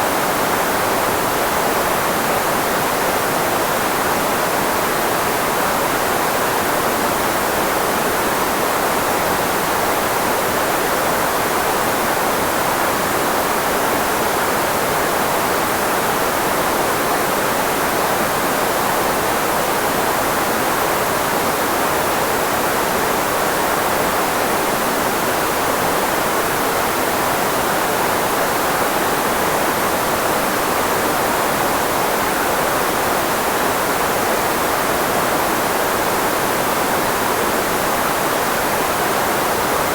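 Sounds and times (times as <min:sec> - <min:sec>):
filtered white noise hiss: 0:00.0 - 0:39.9.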